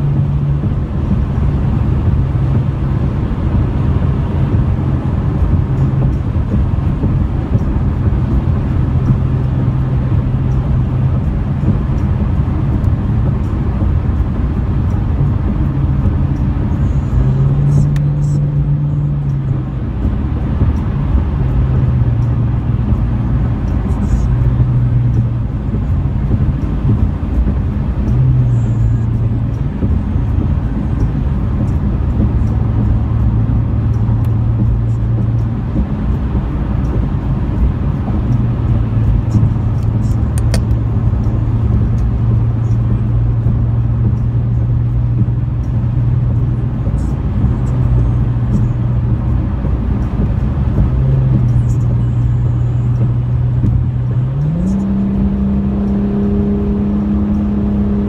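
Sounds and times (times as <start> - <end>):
car engine drone: 0.0 - 58.0
tyre road noise: 0.0 - 58.0.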